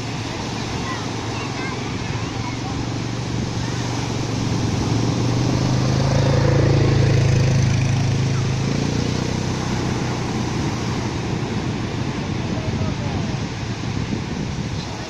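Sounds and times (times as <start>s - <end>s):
low engine hum: 0.0s - 15.0s
surf washing up beach: 0.0s - 15.0s
wind on microphone: 0.0s - 15.0s.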